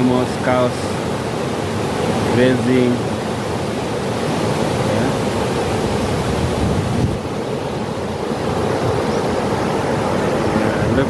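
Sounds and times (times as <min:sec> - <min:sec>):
flowing river: 0:00.0 - 0:11.0
wind buffeting microphone: 0:01.0 - 0:11.0.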